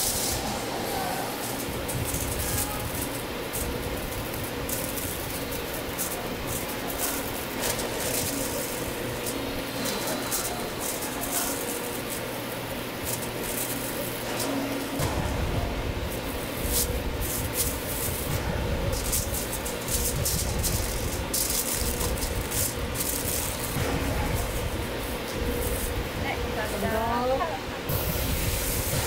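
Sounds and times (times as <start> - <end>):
aluminium foil crinkling: 0.0 - 29.0
low mechanical hum: 0.0 - 29.0.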